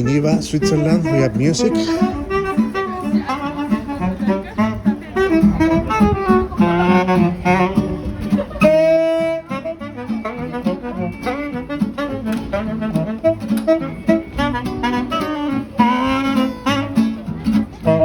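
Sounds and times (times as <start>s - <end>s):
live jazzy wind instrument melody: 0.0s - 18.0s.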